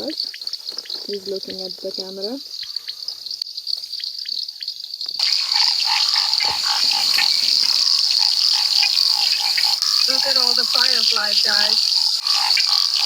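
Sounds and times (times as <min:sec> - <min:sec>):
frogs croaking: 0:00.0 - 0:13.0
high-pitched insect trill: 0:00.0 - 0:13.0.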